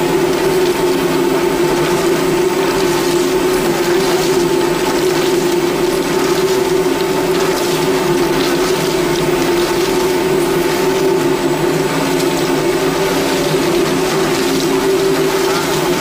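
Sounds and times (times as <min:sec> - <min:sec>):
frying machine humming: 0:00.0 - 0:16.0.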